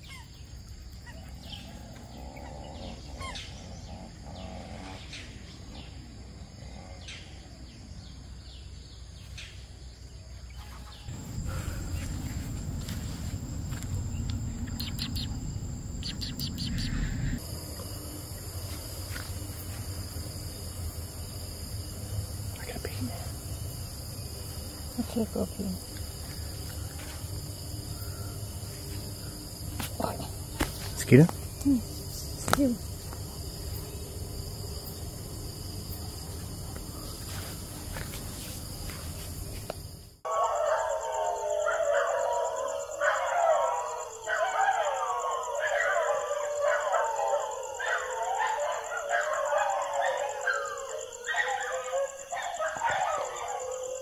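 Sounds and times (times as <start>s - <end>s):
animals calling at night: 0.0s - 8.1s, 10.5s - 18.5s, 22.4s - 38.1s, 40.2s - 54.0s
crickets trilling: 0.0s - 54.0s.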